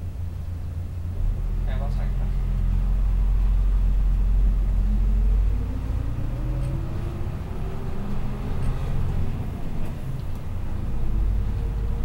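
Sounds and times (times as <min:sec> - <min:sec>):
bus diesel engine revving: 0:01.0 - 0:12.0.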